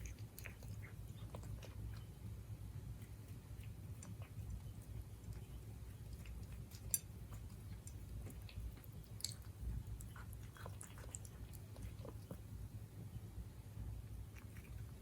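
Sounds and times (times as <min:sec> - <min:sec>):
cat chewing food: 0:00.0 - 0:13.0, 0:13.9 - 0:15.0
low steady hum: 0:00.0 - 0:15.0.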